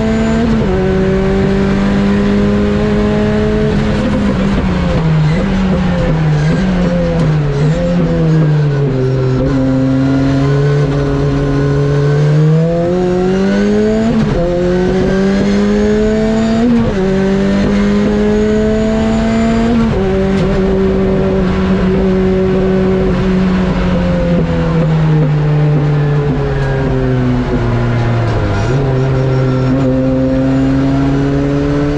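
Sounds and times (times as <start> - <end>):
car engine accelerating hard: 0.0 - 31.9.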